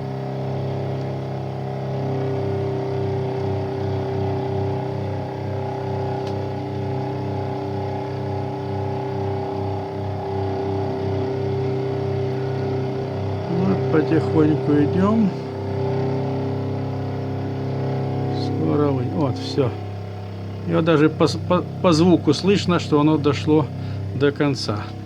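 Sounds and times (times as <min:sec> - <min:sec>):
milling machine motor hum: 0:00.0 - 0:25.0.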